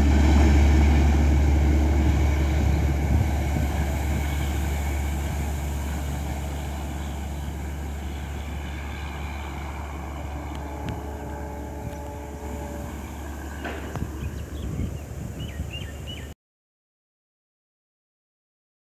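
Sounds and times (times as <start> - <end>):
passenger train rumble: 0.0 - 16.3.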